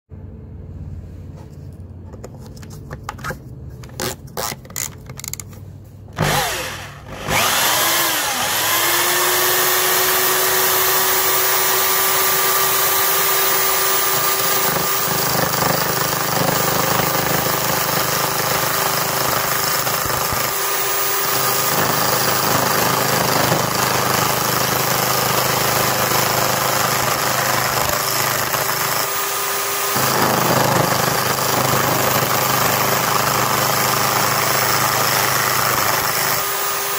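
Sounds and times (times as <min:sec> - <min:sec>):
chisel shaving spinning wood: 0:06.2 - 0:36.9
electric drill whining: 0:06.2 - 0:36.9.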